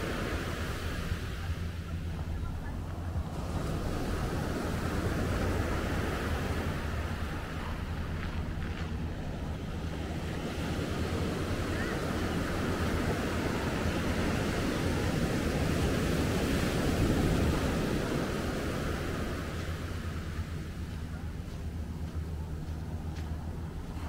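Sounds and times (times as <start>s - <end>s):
surf washing onto beach: 0.0s - 24.0s.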